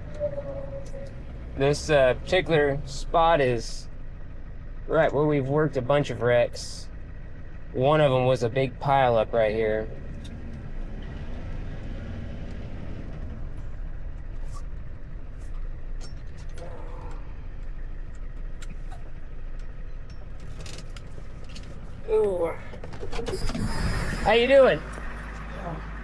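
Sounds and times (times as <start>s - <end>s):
truck engine low rumble: 0.0s - 26.0s.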